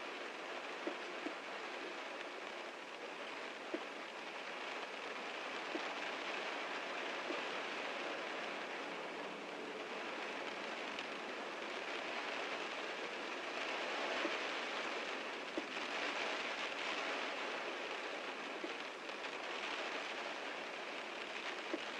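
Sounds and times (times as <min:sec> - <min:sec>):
heavy rain on a car: 0:00.0 - 0:21.9.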